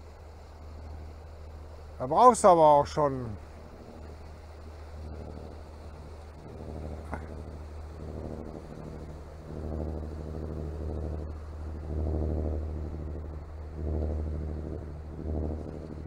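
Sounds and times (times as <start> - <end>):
diesel boat engine droning: 0.0 - 16.0.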